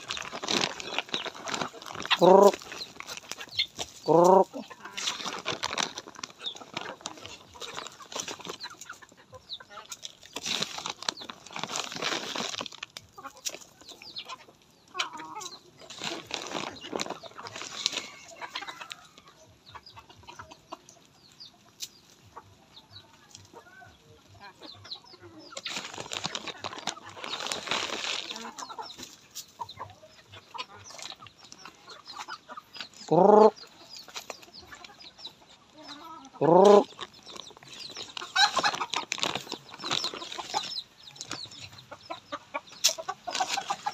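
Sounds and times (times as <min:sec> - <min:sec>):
chickens clucking: 0:00.0 - 0:43.9
pecking and scratching on gravel: 0:00.0 - 0:43.9.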